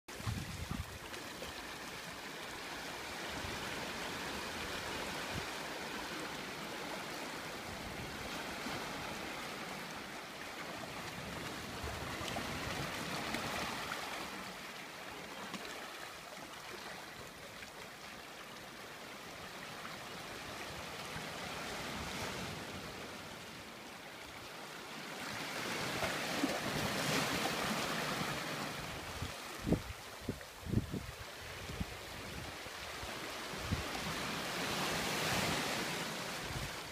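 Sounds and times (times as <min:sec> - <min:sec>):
small waves washing on sand: 0:00.1 - 0:36.9.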